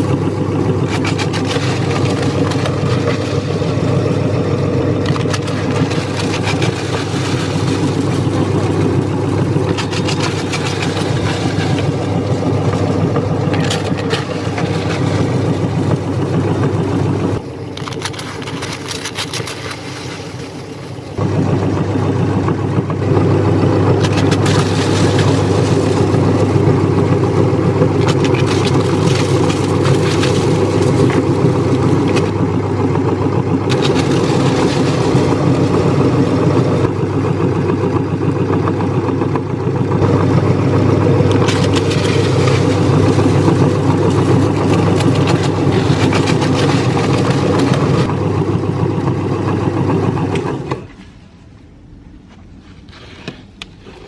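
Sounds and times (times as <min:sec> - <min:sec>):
meat grinder motor humming: 0:00.0 - 0:50.8.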